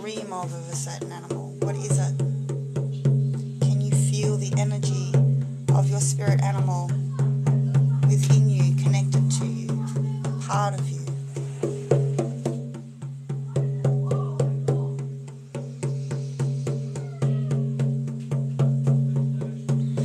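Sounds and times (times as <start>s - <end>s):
frame drum beating: 0.0s - 20.0s.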